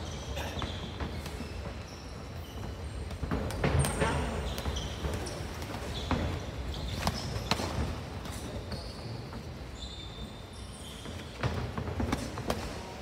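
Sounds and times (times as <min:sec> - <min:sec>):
shoes squeaking on canvas: 0:00.0 - 0:12.8.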